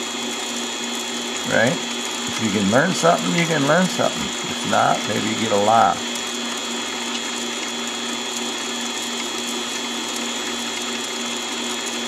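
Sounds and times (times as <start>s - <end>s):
lathe motor whining: 0.2s - 12.0s.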